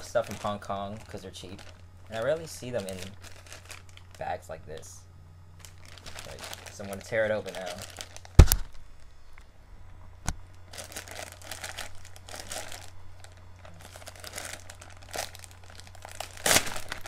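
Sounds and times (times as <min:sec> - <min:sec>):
plastic bag crinkling: 0:00.0 - 0:04.5, 0:05.6 - 0:09.1, 0:10.4 - 0:17.0.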